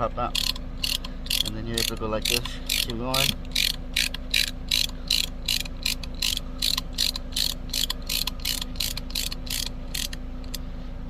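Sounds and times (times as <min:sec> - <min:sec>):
ratchet tool clicking: 0:00.3 - 0:10.6.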